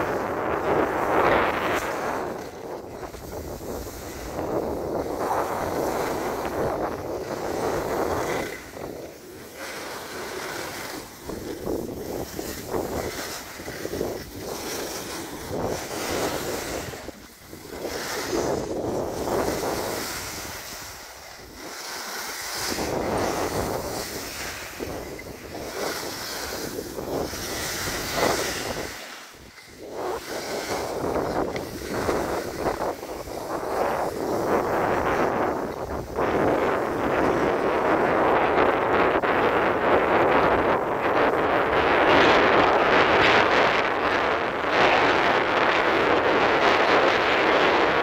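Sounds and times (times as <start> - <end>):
skis scraping over snow: 0.0 - 48.0
wind rushing over microphone: 0.0 - 48.0.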